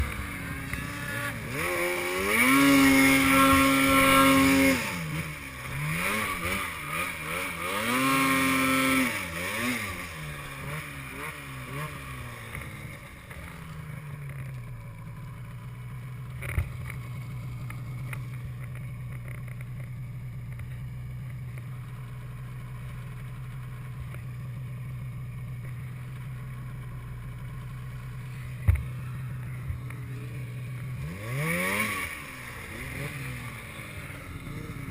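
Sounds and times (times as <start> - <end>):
snowmobile engine revving and idling: 0.0 - 34.9.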